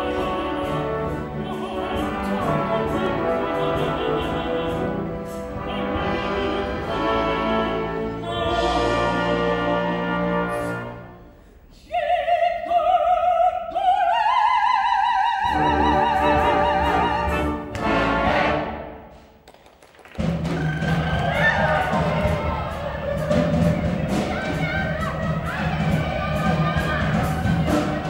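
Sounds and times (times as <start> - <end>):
chorus singing: 0.0 - 11.2, 11.8 - 19.0, 20.4 - 28.0
orchestra playing: 0.0 - 11.5, 15.4 - 19.4, 20.2 - 28.0.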